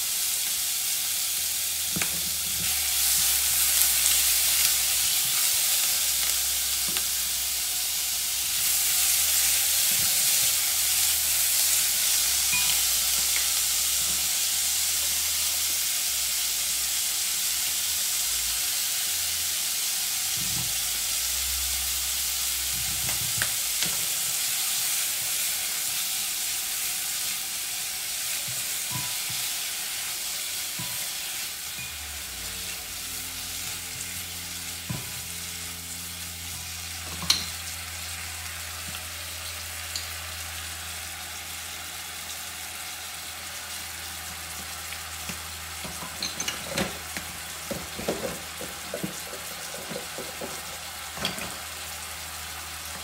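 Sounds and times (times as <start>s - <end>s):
chicken sizzling in a wok: 0.0s - 53.0s.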